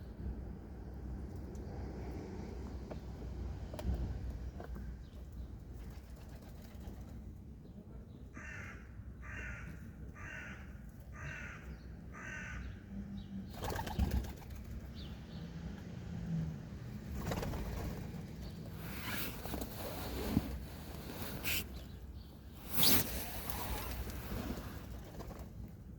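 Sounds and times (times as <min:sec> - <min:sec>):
low city background: 0:00.0 - 0:25.9.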